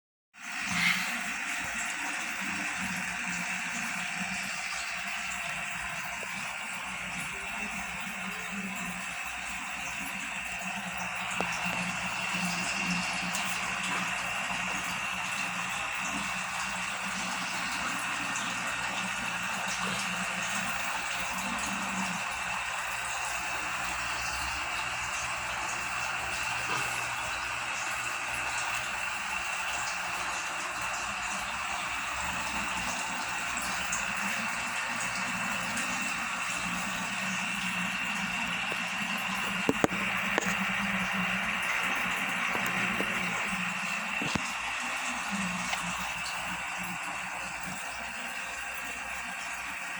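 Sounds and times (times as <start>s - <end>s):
bubbling aquarium water: 0.4s - 49.9s.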